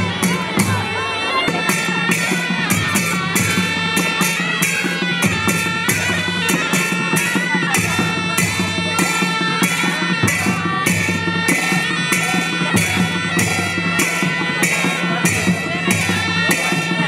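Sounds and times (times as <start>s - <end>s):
hand drums beating: 0.0s - 17.0s
reedy shawm melody: 0.0s - 17.0s
cymbal strokes: 1.5s - 17.0s.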